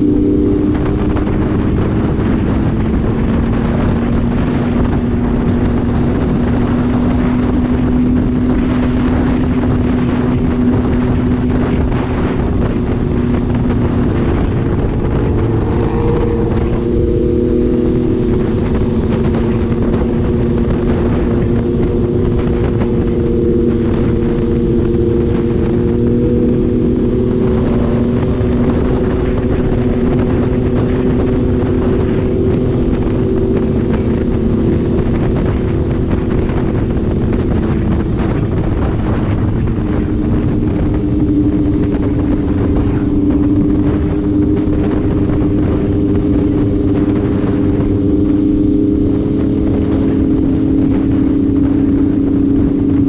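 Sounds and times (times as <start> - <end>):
motorcycle engine cruising: 0.0 - 53.0
wind on microphone: 0.0 - 53.0.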